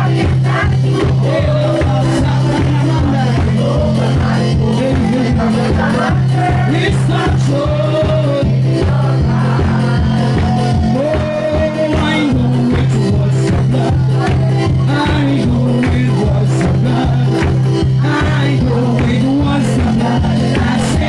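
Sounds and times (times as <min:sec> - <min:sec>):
person singing: 0:00.0 - 0:21.0
worship music with bass beat: 0:00.0 - 0:21.0.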